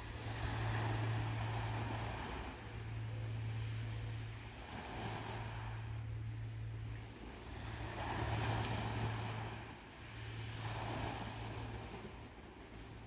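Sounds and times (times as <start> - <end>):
small waves washing on beach: 0.0 - 13.0
steady low hum: 0.0 - 13.0.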